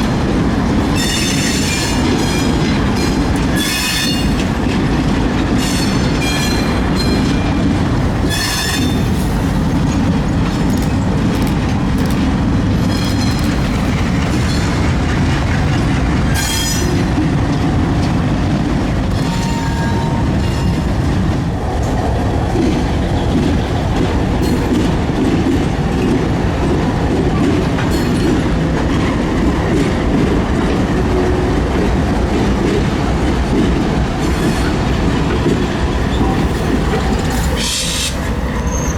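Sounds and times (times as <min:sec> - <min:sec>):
diesel locomotives rumbling: 0:00.0 - 0:38.9.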